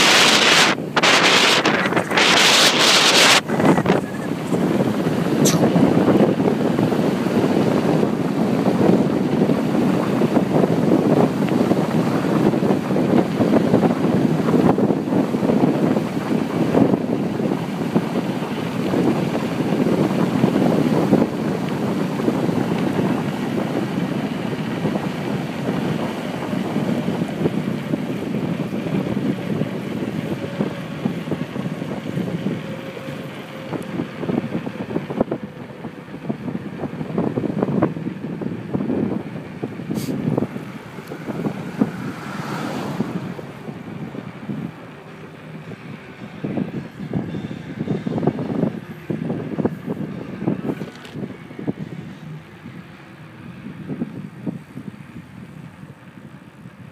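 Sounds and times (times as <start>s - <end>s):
wind rushing over microphone: 0.0s - 56.9s.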